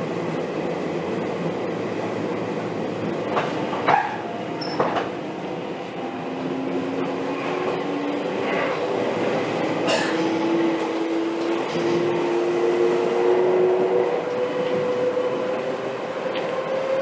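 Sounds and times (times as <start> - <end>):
electric train running: 0.0 - 17.0.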